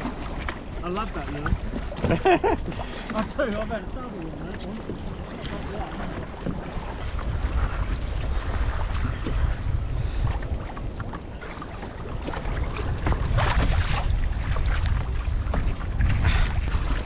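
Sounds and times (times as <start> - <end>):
water lapping against kayak: 0.0 - 17.0
wind buffeting microphone: 0.0 - 17.0.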